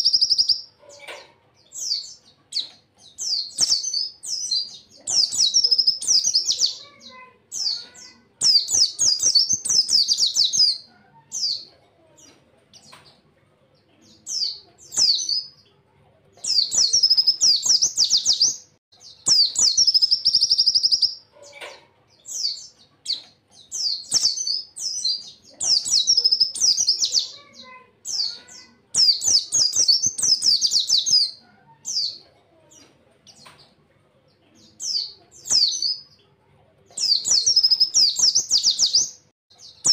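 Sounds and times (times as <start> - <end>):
bird twittering song: 0.0 - 15.8, 16.4 - 33.8, 34.6 - 39.9.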